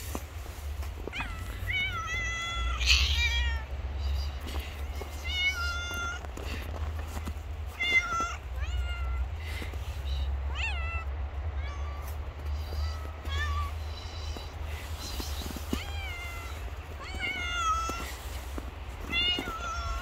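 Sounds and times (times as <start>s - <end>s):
cats meowing: 1.0s - 6.6s, 7.7s - 9.4s, 10.4s - 20.0s.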